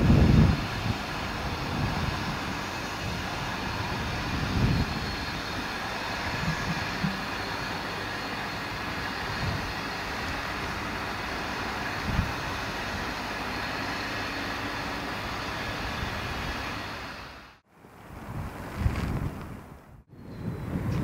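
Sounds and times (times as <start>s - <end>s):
steam locomotive hissing: 0.0s - 17.6s.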